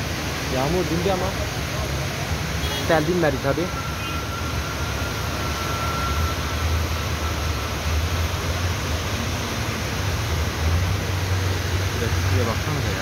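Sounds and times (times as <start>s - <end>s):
floodwater rushing: 0.0s - 13.0s
traffic rumble: 0.0s - 13.0s.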